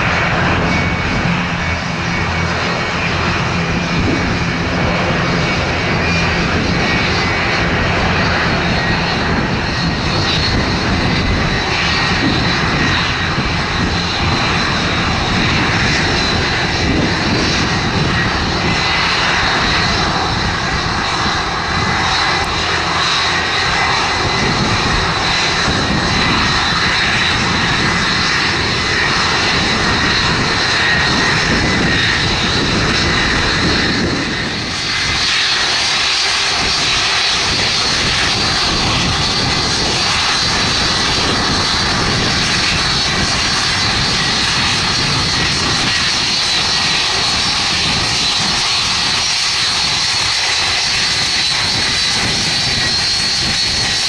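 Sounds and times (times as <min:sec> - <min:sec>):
jet engines roaring with whine: 0:00.0 - 0:54.0.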